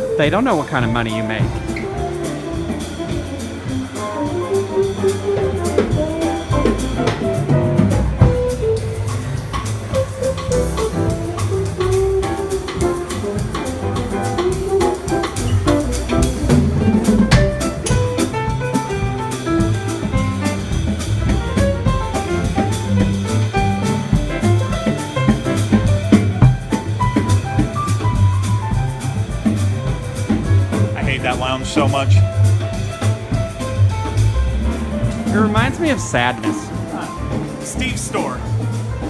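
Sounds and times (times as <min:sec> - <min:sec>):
drum kit beat: 0:00.0 - 0:39.0
jazz band playing: 0:00.0 - 0:39.0.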